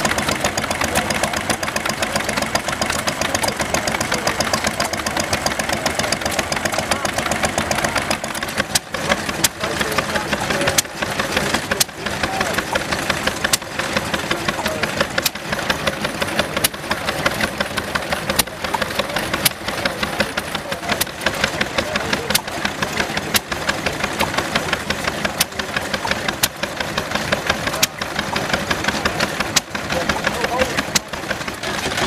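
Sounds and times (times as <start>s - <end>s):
engine clicks: 0.0s - 32.0s
stationary engine clattering: 0.0s - 32.0s.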